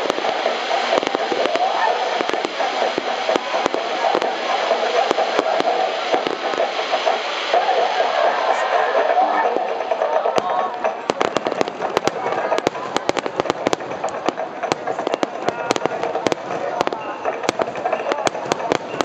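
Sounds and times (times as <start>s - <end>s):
crowd chatter: 0.0s - 19.0s
fireworks popping and crackling: 0.0s - 19.0s.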